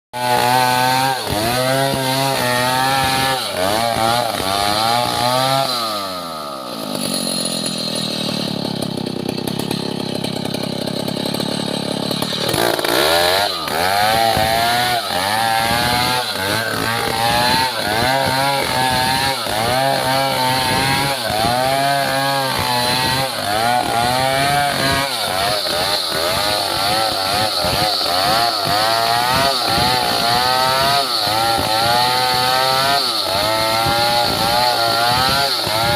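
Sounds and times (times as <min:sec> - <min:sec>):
chainsaw cutting wood: 0:00.2 - 0:35.9.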